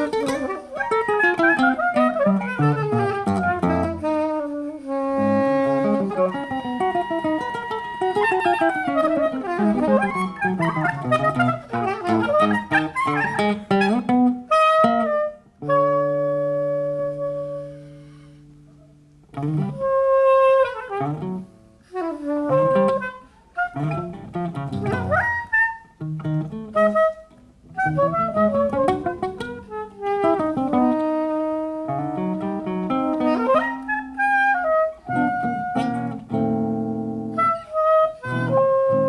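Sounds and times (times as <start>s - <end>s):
guitar playing: 0.0s - 39.0s
soprano saxophone: 0.0s - 39.0s.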